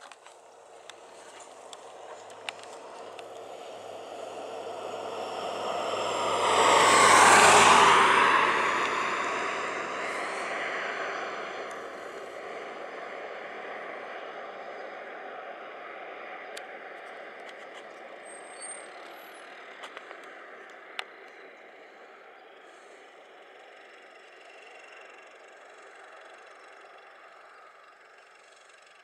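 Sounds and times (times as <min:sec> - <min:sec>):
low engine sound: 0:00.0 - 0:29.0
vehicle passing by: 0:00.2 - 0:28.1.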